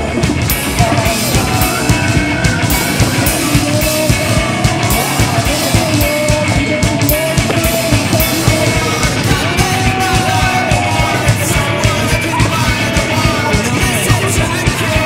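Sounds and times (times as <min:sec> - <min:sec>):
fast drum beat: 0:00.0 - 0:15.0
person singing: 0:00.0 - 0:15.0
rock music: 0:00.0 - 0:15.0.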